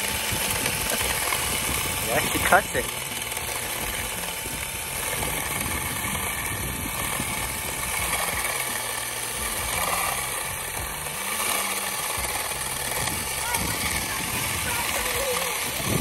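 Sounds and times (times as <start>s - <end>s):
cordless drill motor running: 0.0s - 16.0s
plastic blade cutting grass: 0.0s - 16.0s.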